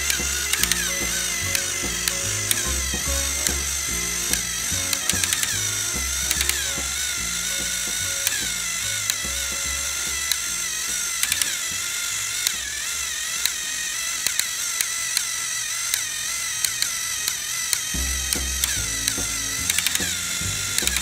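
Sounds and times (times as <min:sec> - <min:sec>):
gears clicking: 0:00.0 - 0:21.0
toy train engines whining: 0:00.0 - 0:21.0.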